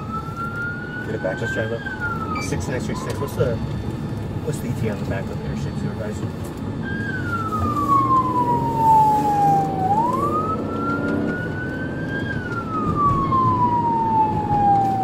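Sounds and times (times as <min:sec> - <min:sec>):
car engine and road noise: 0:00.0 - 0:15.0
police siren wailing: 0:00.0 - 0:15.0.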